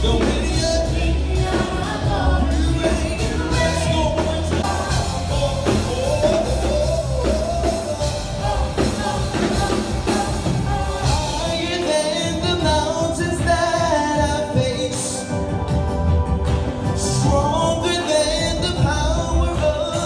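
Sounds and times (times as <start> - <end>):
song with vocals beat and bass: 0.0 - 20.0.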